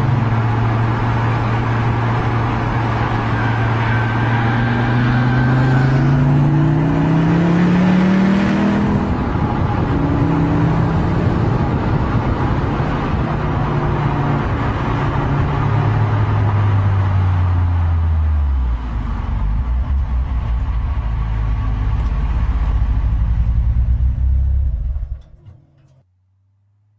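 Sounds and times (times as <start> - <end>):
car engine revving and idling: 0.0 - 25.4.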